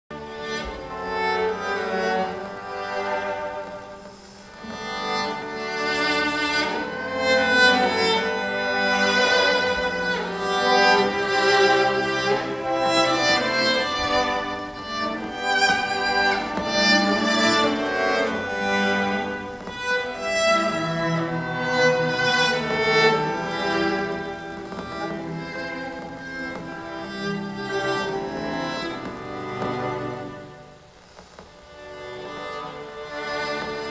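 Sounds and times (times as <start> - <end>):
cellos playing bowed notes: 0.1 - 33.9.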